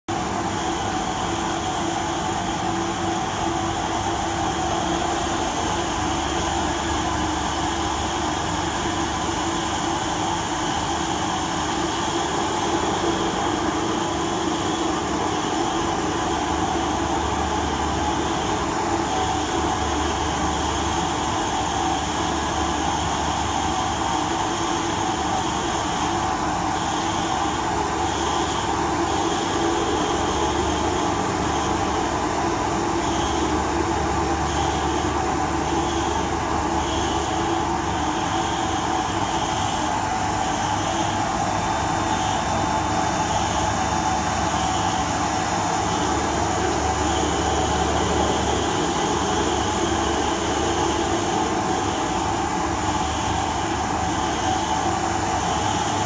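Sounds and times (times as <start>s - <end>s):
machine motor droning: 0.1s - 56.0s.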